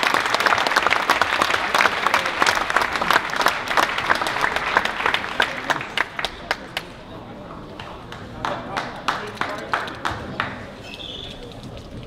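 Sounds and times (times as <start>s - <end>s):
crowd applauding: 0.0s - 7.1s, 7.7s - 11.3s.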